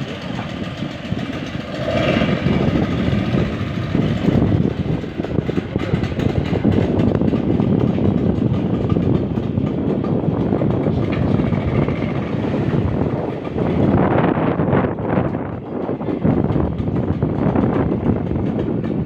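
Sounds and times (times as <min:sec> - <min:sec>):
speedboat outboard motors droning: 0:00.0 - 0:19.0.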